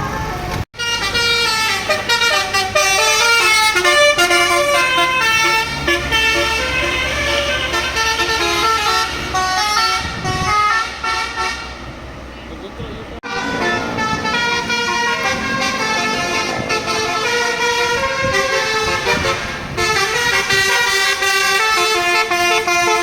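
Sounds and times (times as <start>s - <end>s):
bus horn melody: 0.0s - 12.6s, 13.2s - 23.0s
low engine hum: 0.0s - 23.0s.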